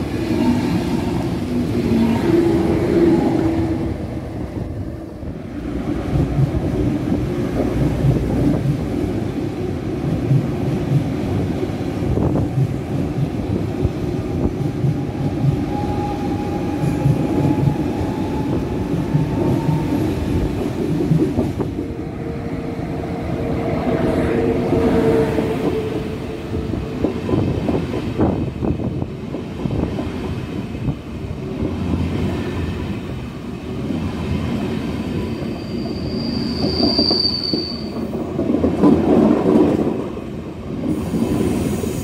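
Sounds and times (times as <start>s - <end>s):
rhythmic clatter over rail joints: 0.0s - 42.0s
train wheels rumbling on rails: 0.0s - 42.0s.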